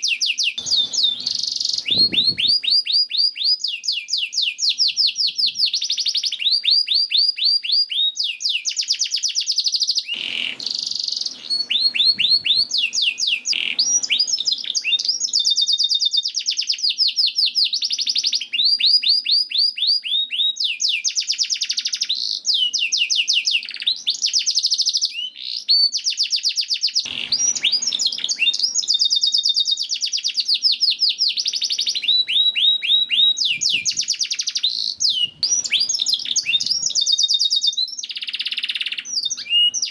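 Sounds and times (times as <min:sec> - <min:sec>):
canary singing trills: 0:00.0 - 0:08.9, 0:09.6 - 0:16.9, 0:19.7 - 0:39.9.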